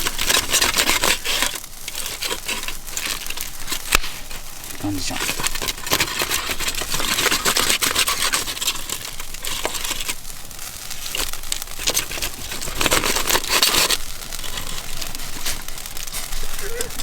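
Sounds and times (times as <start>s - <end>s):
food sizzling over campfire: 0.0s - 17.0s.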